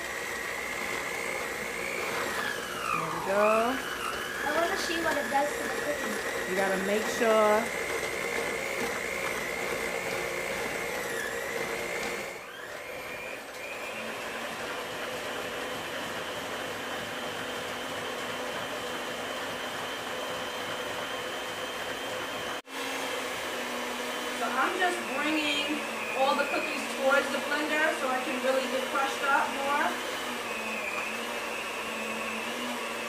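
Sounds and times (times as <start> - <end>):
stand mixer running: 0.0 - 33.0.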